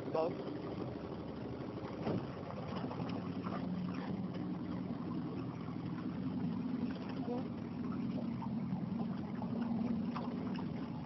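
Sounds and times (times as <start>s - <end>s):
outboard motor humming: 0.0s - 11.0s
water noise: 0.0s - 11.0s.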